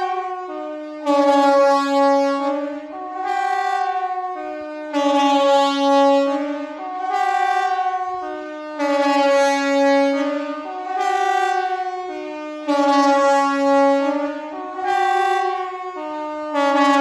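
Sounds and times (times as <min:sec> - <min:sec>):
compressed-air siren wailing: 0:00.0 - 0:17.0.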